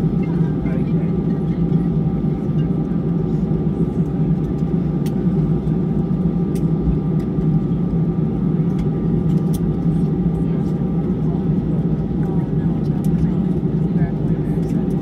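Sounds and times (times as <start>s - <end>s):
jet engines idling hum: 0.0s - 15.0s.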